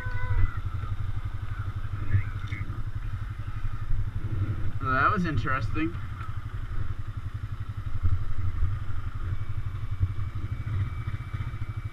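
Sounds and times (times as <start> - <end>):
quad bike engine running: 0.0 - 11.9.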